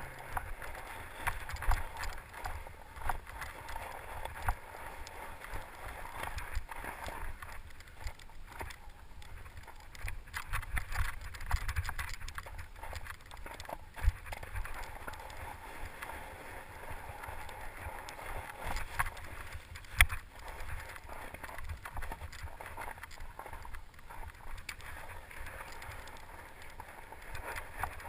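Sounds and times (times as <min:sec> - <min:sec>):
bike clattering and rattling: 0:00.0 - 0:16.1, 0:17.0 - 0:28.0.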